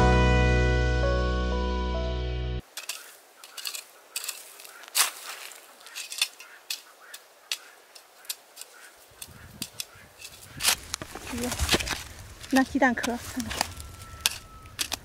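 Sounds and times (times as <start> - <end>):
spade digging into dry ground: 2.6 - 15.0.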